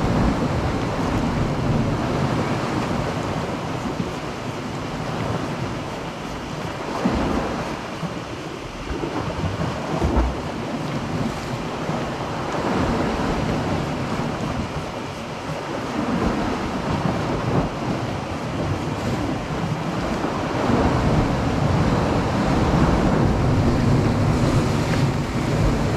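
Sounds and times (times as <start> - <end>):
wind buffeting microphone: 0.0 - 8.2, 8.8 - 25.9
sea waves on rocky shore: 0.0 - 25.9.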